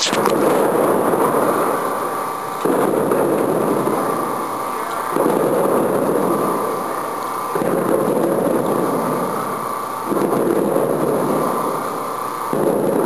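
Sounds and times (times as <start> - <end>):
steady machine whine: 0.0 - 13.0.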